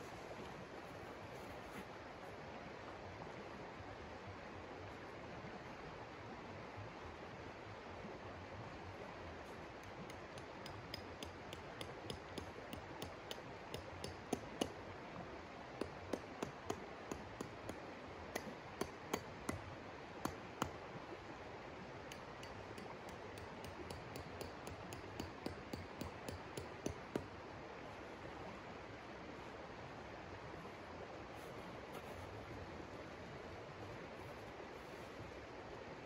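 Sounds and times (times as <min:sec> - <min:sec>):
river running: 0:00.0 - 0:36.0.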